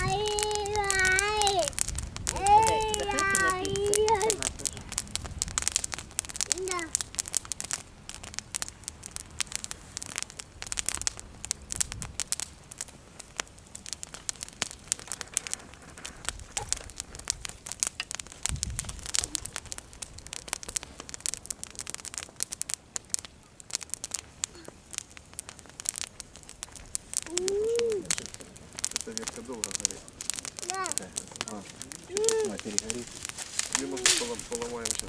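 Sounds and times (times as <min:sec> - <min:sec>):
bonfire crackling and popping: 0:00.0 - 0:35.0
low rumbles: 0:00.0 - 0:35.0.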